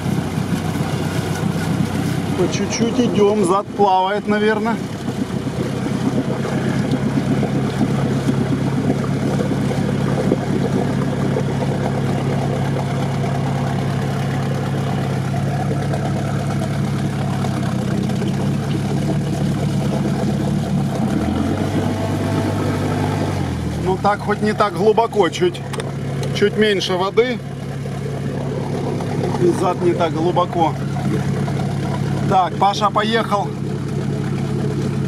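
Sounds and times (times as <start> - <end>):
off-road vehicle engine under load: 0.0 - 35.0.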